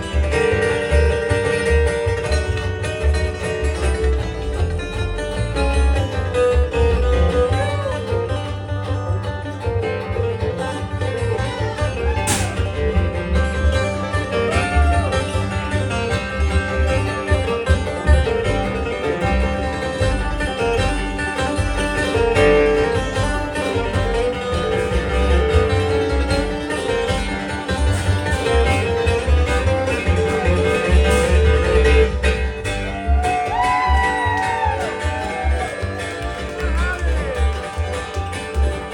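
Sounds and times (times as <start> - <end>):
bass pulse: 0.0 - 9.5, 10.1 - 38.9
banjo picking: 0.0 - 38.9
bluegrass band playing: 0.0 - 38.9
fiddle: 0.0 - 38.9.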